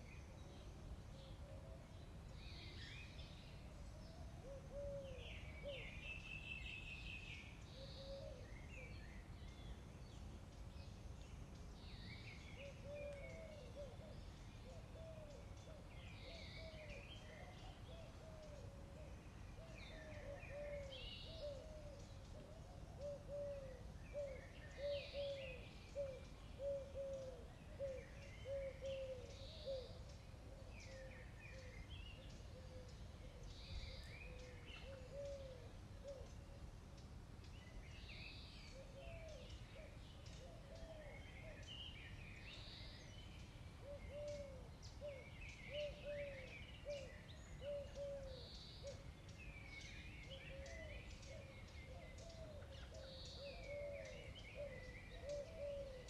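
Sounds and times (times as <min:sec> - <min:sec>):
birds cooing: 0:03.9 - 0:06.2, 0:07.0 - 0:09.0, 0:12.4 - 0:36.6, 0:38.0 - 0:56.0.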